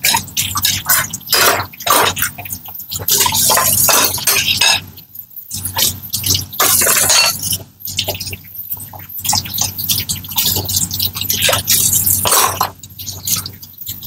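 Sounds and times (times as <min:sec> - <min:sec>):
tap water running and splashing: 0:00.0 - 0:14.0.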